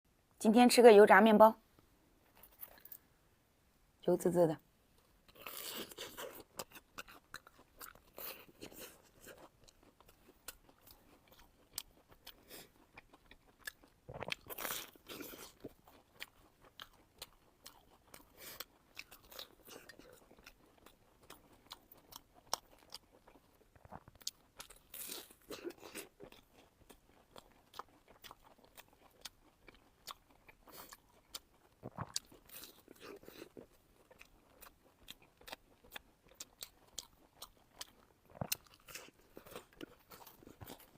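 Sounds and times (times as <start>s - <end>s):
chewing crunchy fried bread: 2.2s - 3.0s, 5.0s - 40.9s.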